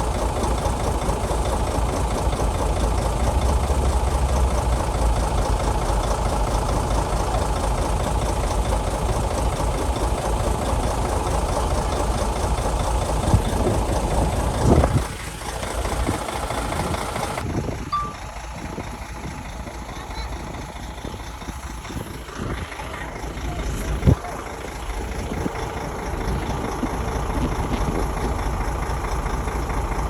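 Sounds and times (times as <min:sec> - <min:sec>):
heavy diesel engine rumbling: 0:00.0 - 0:30.0.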